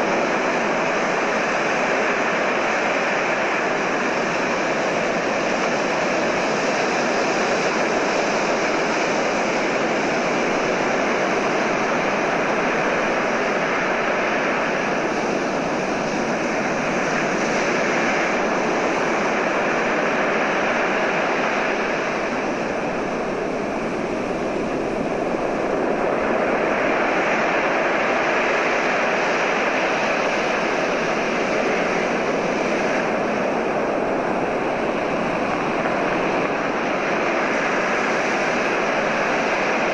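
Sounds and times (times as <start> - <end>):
breaking ocean waves: 0.0 - 39.9.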